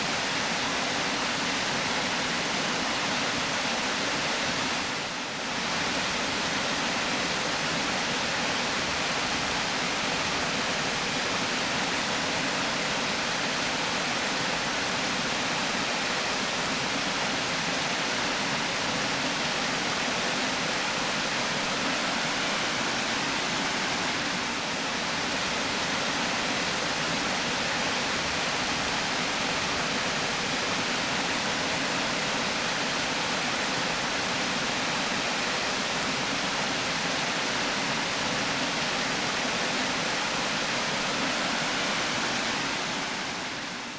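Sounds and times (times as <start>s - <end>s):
river water pouring over weir: 0.0s - 43.9s.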